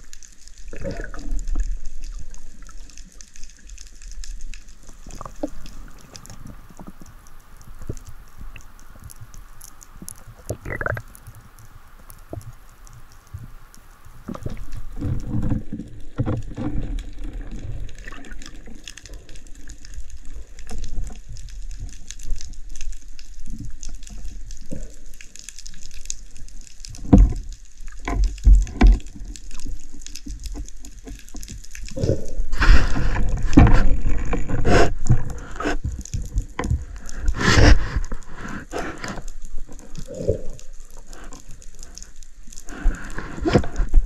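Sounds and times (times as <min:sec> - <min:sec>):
water gurgling and sloshing: 0:00.0 - 0:44.0.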